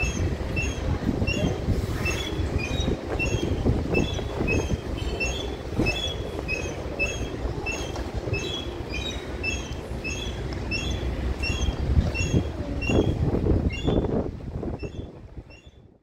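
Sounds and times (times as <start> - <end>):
rough animal calls: 0.0 - 14.0
high chirping call: 0.0 - 14.1.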